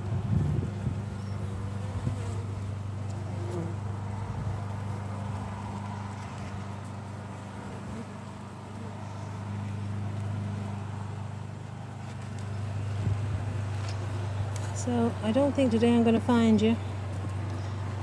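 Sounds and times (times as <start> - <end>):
honeybee colony buzzing: 0.0 - 18.0.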